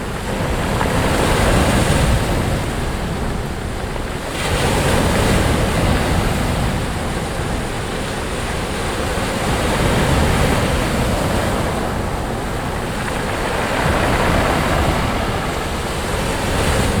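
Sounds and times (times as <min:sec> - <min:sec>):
surf breaking on a beach: 0:00.0 - 0:17.0.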